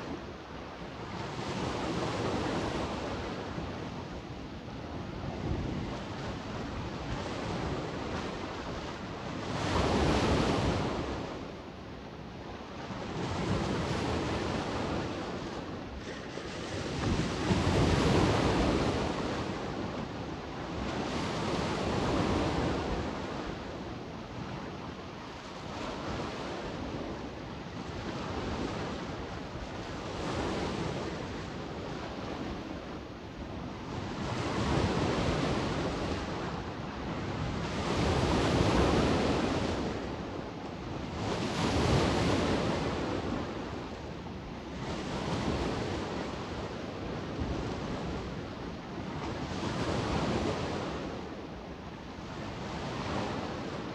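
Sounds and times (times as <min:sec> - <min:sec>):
wind on microphone: 0:00.0 - 0:53.9.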